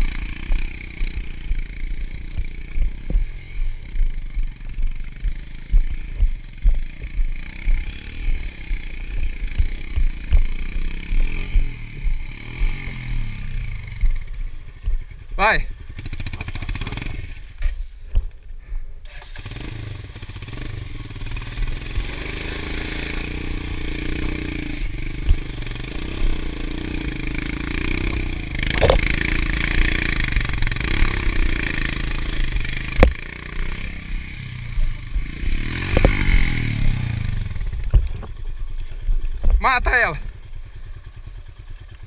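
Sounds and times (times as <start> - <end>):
dirt bike engine revving hard: 0.0 - 17.7, 19.2 - 37.8.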